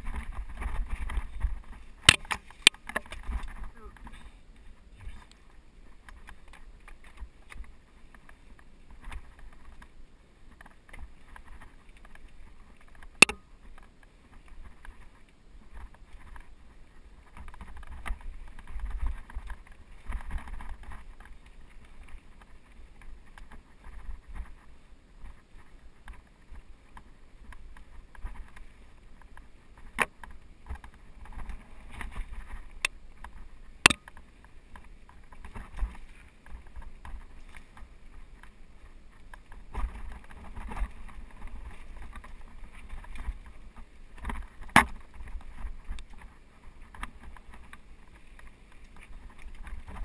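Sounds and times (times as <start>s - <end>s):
bike tyres crunching on dirt: 0.0s - 50.0s.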